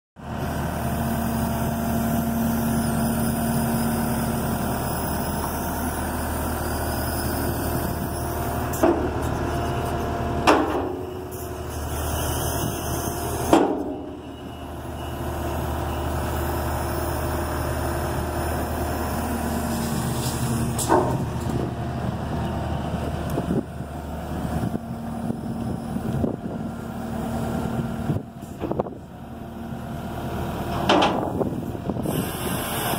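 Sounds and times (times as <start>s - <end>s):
diesel engine under hydraulic load: 0.2s - 32.9s.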